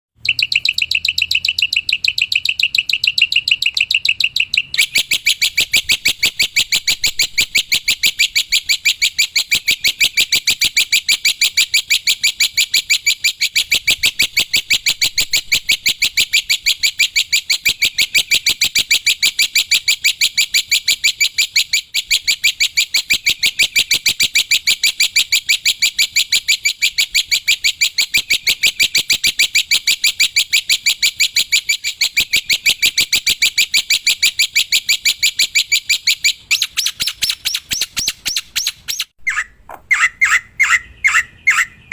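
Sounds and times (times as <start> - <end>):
bird chirping rapidly: 0.1 - 41.9.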